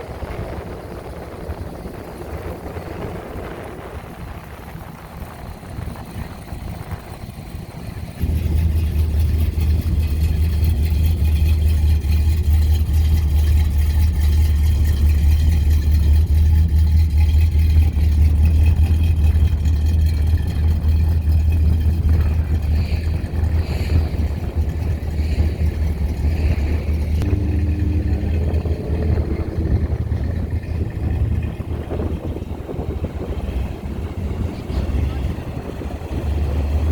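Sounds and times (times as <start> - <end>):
car engine rumbling: 0.0 - 36.9
wind noise on microphone: 0.0 - 36.9.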